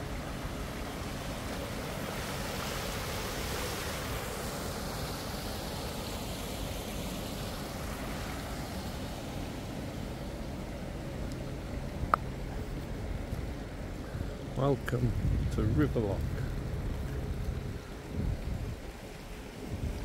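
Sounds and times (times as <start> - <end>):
water rushing along stone channel: 0.0 - 20.0.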